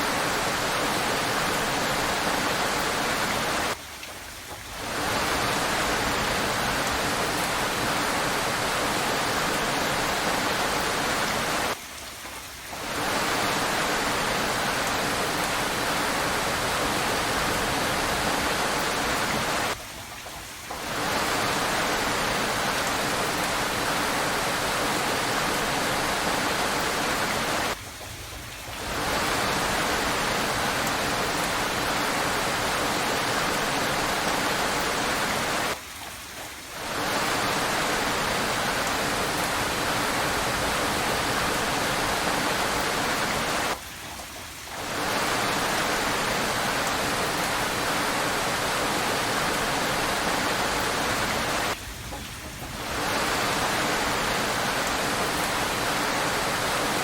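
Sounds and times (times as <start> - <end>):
heavy rain hiss: 0.0 - 11.9, 12.5 - 35.8, 36.6 - 43.8, 44.4 - 57.0.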